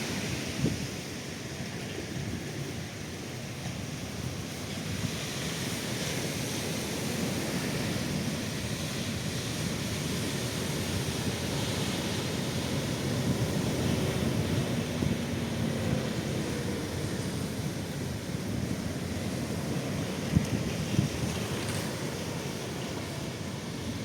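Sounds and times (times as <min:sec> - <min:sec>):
ocean surf on a beach: 0:00.0 - 0:24.0
wind rumbling on microphone: 0:00.0 - 0:24.0.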